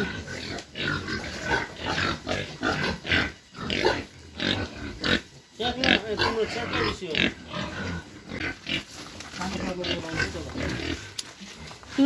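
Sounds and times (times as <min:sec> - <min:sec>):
pigs grunting: 0:00.0 - 0:12.0.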